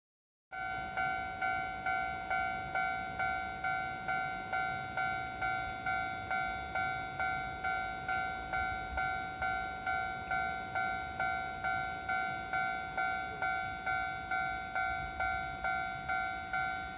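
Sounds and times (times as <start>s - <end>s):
level-crossing warning bell: 0.5s - 16.9s.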